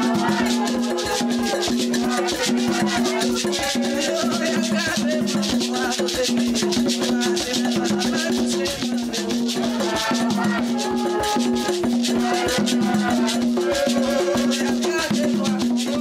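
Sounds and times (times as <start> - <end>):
shaker: 0.0 - 16.0.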